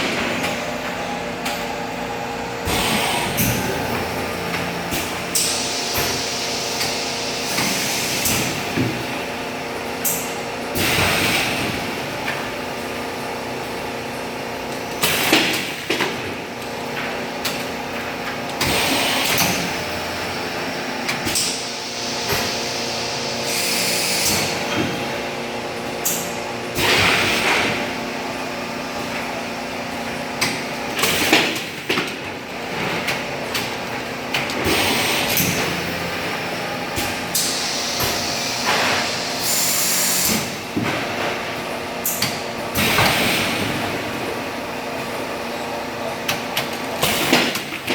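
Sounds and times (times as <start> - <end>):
packaging machine humming: 0.0 - 47.9.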